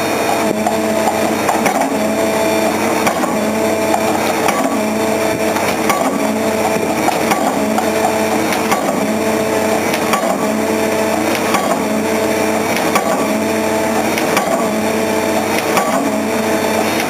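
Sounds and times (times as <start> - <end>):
rig engine droning: 0.0 - 17.0
pile-driving hammer striking concrete: 0.3 - 2.2, 3.0 - 16.3.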